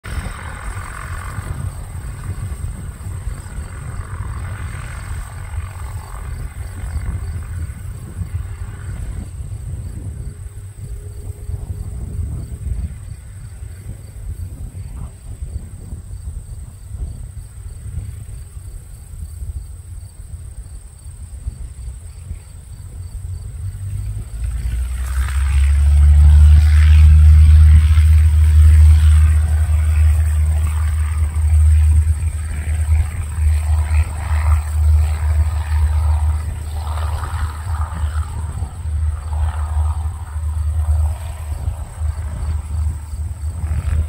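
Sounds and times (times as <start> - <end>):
distant aircraft engines droning: 0.0 - 44.0
low uneven rumble: 0.0 - 44.0
wind buffeting microphone: 0.0 - 44.0
insects buzzing and chirping: 0.1 - 44.0.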